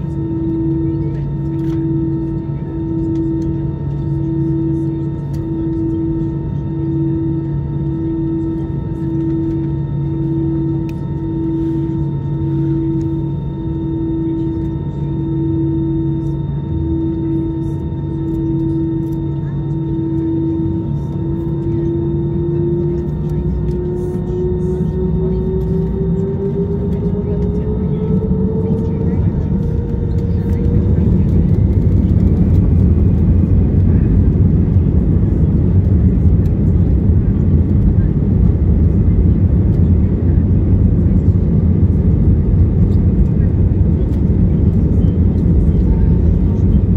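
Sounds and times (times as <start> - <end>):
aircraft engine drone: 0.0 - 46.9
low rumble: 0.0 - 46.9.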